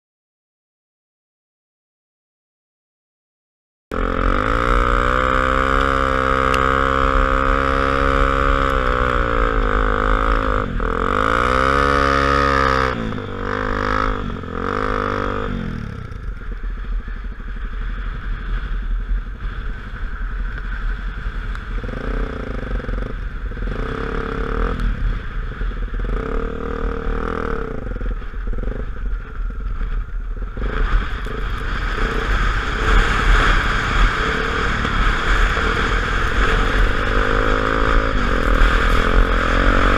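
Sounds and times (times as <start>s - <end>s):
motorcycle engine running: 3.9s - 39.9s
rough rushing wind noise: 3.9s - 39.9s.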